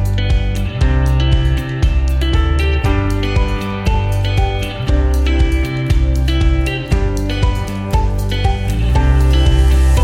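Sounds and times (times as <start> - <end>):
plucked guitar music with bass: 0.0 - 10.0.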